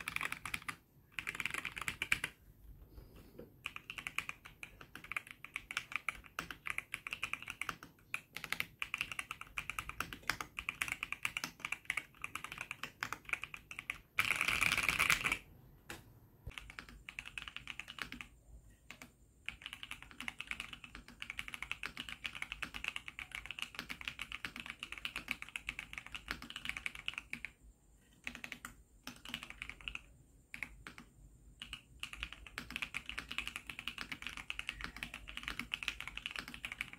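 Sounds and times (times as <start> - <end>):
mechanical keyboard typing: 0.0 - 2.5, 3.6 - 36.9.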